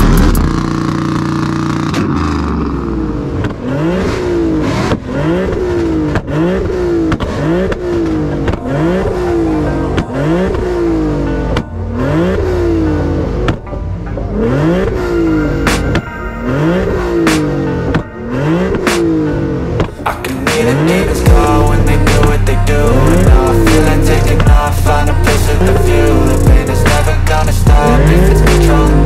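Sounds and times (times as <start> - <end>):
car engine revving: 0.0 - 29.0
exhaust cracking: 0.0 - 29.0.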